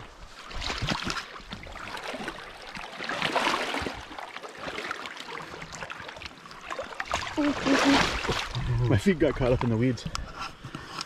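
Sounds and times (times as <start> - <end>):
shallow water splashing: 0.0 - 10.1.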